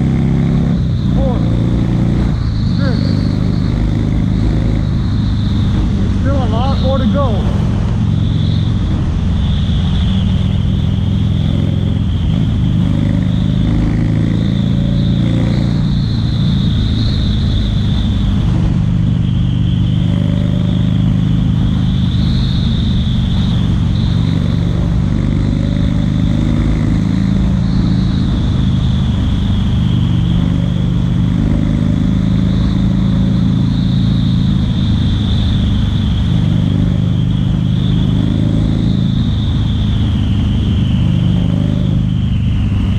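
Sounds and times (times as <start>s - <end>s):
motorcycle engine at speed: 0.0s - 42.9s.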